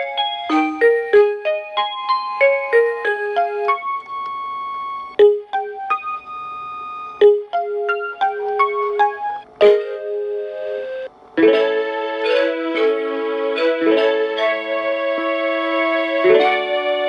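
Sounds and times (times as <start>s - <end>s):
electronic piano lullaby: 0.0s - 17.0s.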